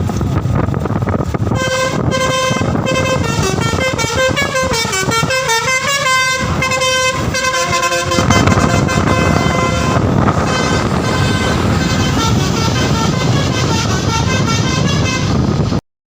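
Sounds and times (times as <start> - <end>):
loud low rumble: 0.0 - 15.8
musical bus horn melody: 1.5 - 15.8.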